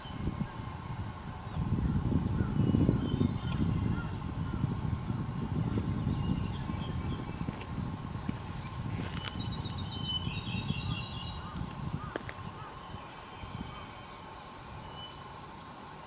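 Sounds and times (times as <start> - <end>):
birds singing: 0.0 - 16.0.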